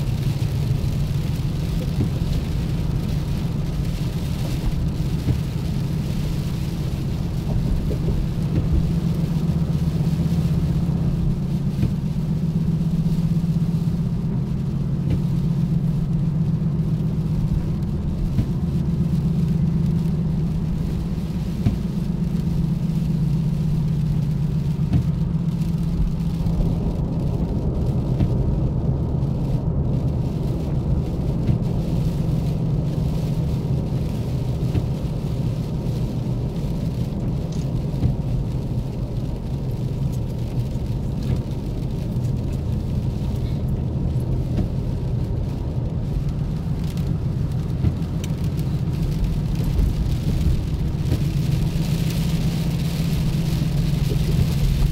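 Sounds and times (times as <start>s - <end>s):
car engine hum: 0.0s - 54.9s
tyres on wet road: 0.0s - 54.9s.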